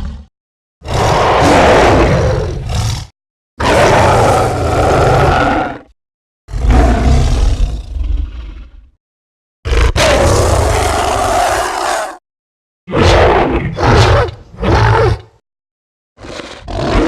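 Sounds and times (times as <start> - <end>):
giant ape roars: 0.8 - 8.9, 9.7 - 12.2, 12.9 - 15.4, 16.2 - 17.0.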